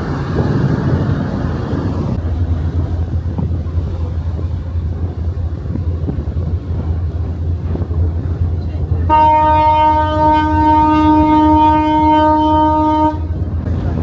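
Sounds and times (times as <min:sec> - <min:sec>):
sea rushing: 0:00.0 - 0:14.0
ship engines humming: 0:00.0 - 0:14.0
wind on microphone: 0:00.0 - 0:14.0.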